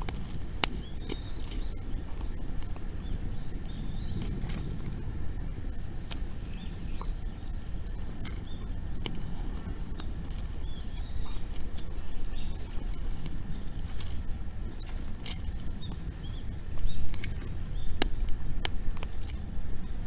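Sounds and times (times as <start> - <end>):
bird chirps: 0.0 - 18.2
bonfire crackling: 0.0 - 20.0.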